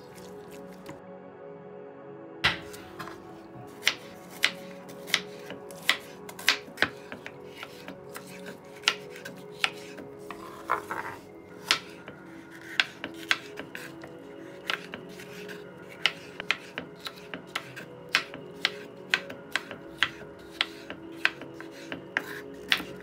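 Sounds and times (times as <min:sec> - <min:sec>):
soft background music: 0:00.0 - 0:23.0
knife chopping on wooden board: 0:02.5 - 0:03.2, 0:03.8 - 0:12.0, 0:12.6 - 0:13.9, 0:14.6 - 0:23.0.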